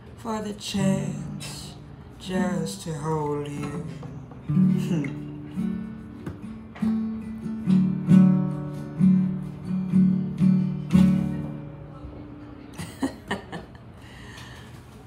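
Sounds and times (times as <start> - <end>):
acoustic guitar strumming chords: 0.2 - 12.8.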